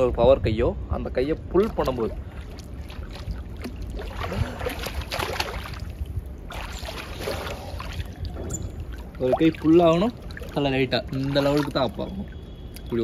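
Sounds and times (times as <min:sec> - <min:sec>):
steady low rumble: 0:00.0 - 0:13.0
pool water splashing: 0:01.5 - 0:13.0.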